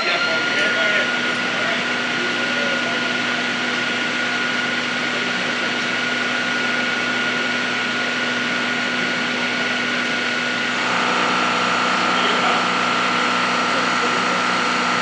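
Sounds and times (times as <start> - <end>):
high whine: 0.0 - 15.0
metal lathe humming: 0.0 - 15.0.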